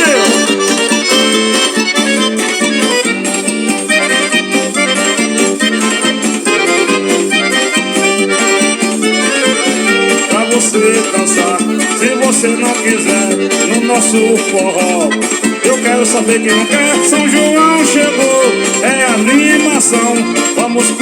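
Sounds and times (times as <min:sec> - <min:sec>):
accordion melody over beat: 0:00.0 - 0:21.0.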